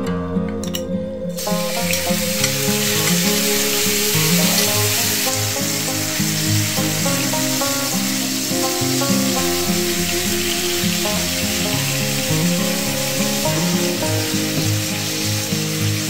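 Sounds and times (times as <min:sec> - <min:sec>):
background music: 0:00.0 - 0:16.0
food sizzling in a pan: 0:01.4 - 0:16.0.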